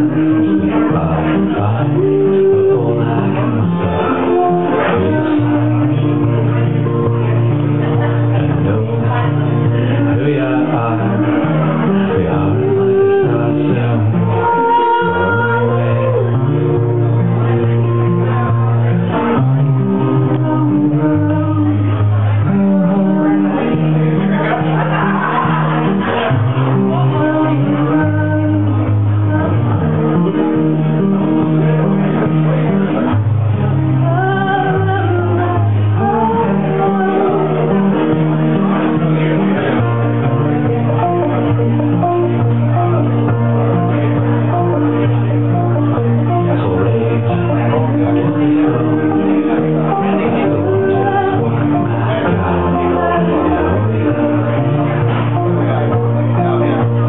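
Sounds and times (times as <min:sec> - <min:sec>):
man singing: 0:00.0 - 0:06.8, 0:08.0 - 0:24.7, 0:25.7 - 0:31.0, 0:33.6 - 0:41.4, 0:45.6 - 0:57.0
electric guitar: 0:00.0 - 0:57.0
held bass notes: 0:00.0 - 0:57.0
keyboard: 0:00.0 - 0:57.0
strummed acoustic guitar: 0:00.0 - 0:57.0.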